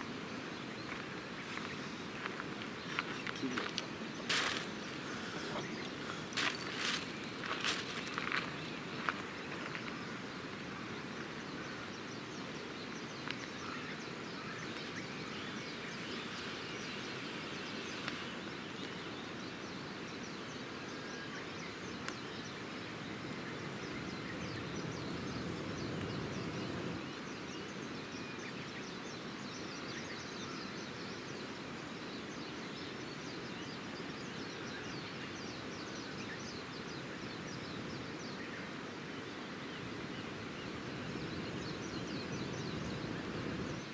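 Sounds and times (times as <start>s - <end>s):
outdoor background noise: 0.0s - 43.9s.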